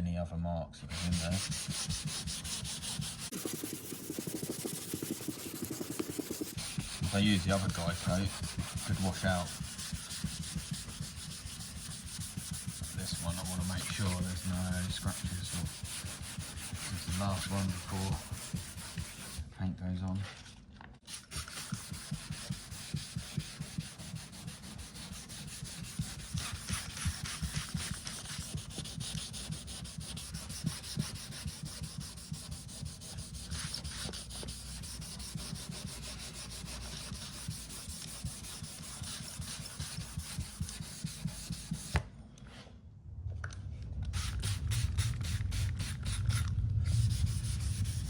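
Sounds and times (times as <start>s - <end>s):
hand sanding metal panel: 0.9s - 19.4s, 21.1s - 42.0s, 44.2s - 48.0s.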